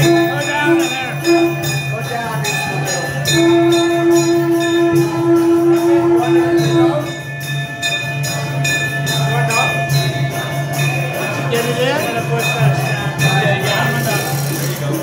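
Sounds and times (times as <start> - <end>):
devotional chanting: 0.0 - 15.0
jingling bells: 0.0 - 15.0.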